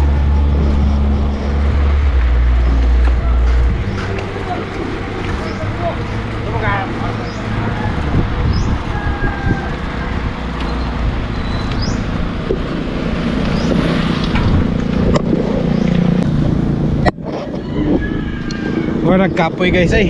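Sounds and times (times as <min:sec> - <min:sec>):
motor vehicle engine: 0:00.0 - 0:20.0
passing traffic: 0:00.0 - 0:20.0
wind rumble on microphone: 0:00.0 - 0:20.0.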